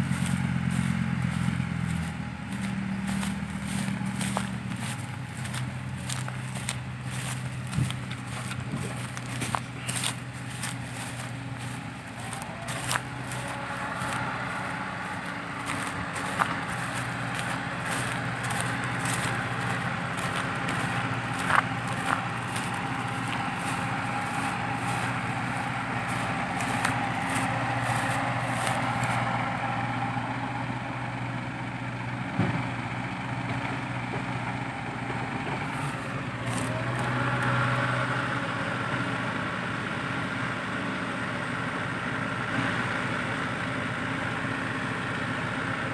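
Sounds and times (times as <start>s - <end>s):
diesel engines running: 0.0s - 45.9s.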